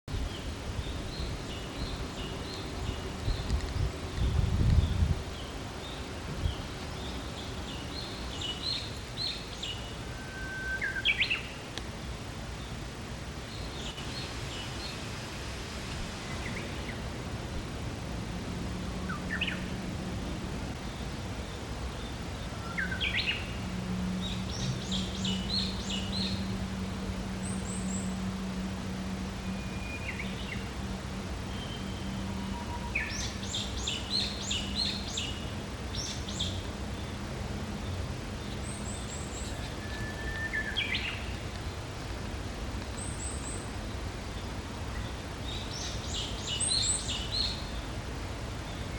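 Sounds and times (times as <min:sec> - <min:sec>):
songbirds singing: 0:00.1 - 0:17.5, 0:18.7 - 0:48.9
background hiss: 0:00.1 - 0:48.9
constant low hum: 0:00.1 - 0:48.9.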